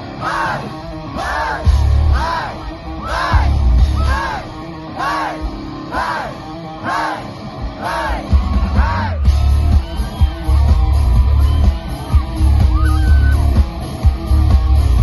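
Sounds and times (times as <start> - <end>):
heavy bass: 0.0 - 15.0
live rock band playing: 0.0 - 15.0.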